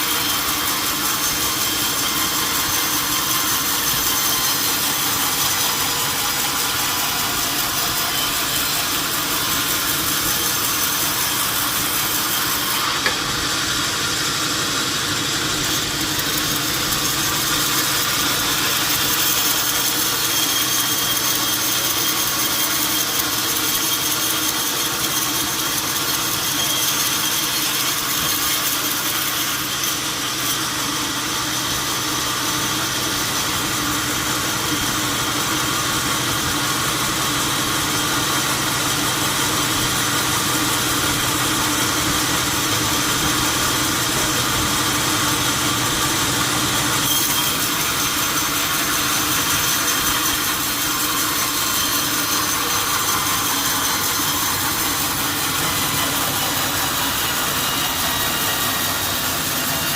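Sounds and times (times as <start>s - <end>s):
machine humming and hissing: 0.0s - 59.9s.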